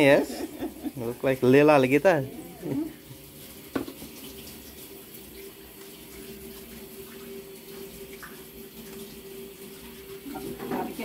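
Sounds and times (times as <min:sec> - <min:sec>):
faint running water: 0:00.0 - 0:11.0.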